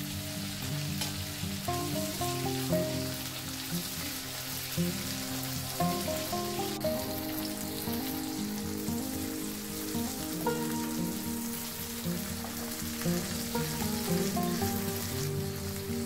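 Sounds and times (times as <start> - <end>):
background music of held notes: 0.0 - 16.0
tomato slices sizzling in oil: 0.0 - 16.0.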